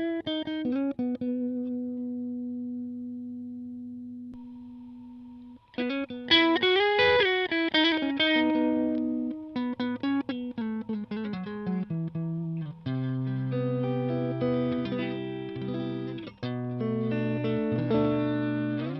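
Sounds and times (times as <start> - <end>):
electric guitar playing: 0.0 - 18.9.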